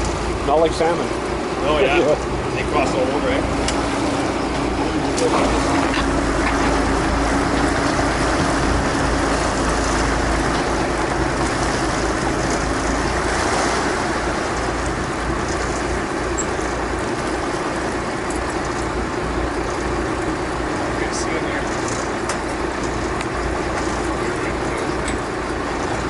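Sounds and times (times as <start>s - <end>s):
boat motor running: 0.0s - 26.0s
water noise: 0.0s - 26.0s
wind: 0.0s - 26.0s.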